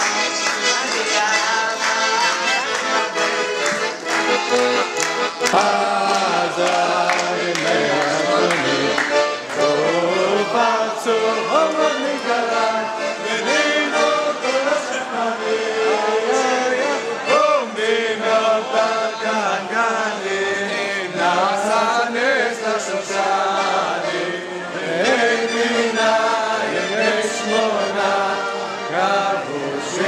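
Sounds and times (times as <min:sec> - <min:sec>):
accordion playing: 0:00.0 - 0:30.0
group of voices singing: 0:00.0 - 0:30.0.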